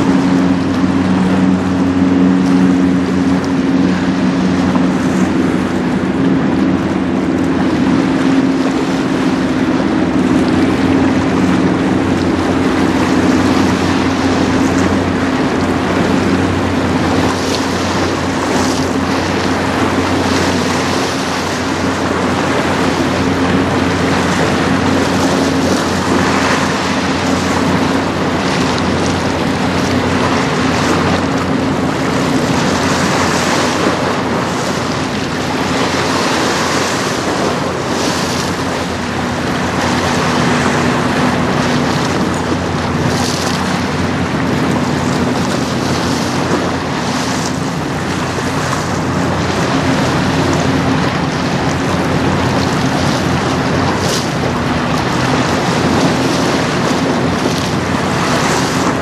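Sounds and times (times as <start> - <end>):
bow wash and choppy water: 0.0 - 59.0
ship engine drone: 0.0 - 59.0
wind buffeting microphone: 0.0 - 59.0.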